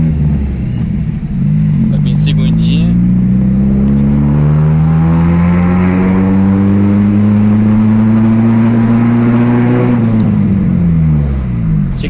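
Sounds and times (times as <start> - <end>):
car engine under heavy throttle: 0.0 - 12.0.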